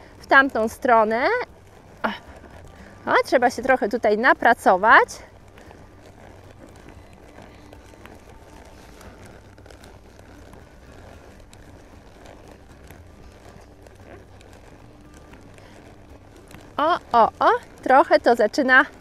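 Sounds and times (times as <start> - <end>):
low steady rumble: 0.0 - 19.0
saddle tack creaking: 0.0 - 19.0.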